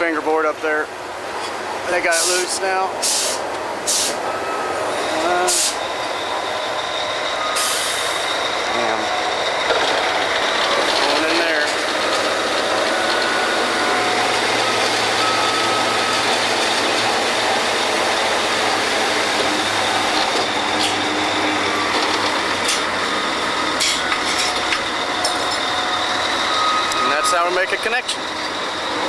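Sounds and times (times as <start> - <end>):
drilling rig machinery running: 0.0 - 29.0.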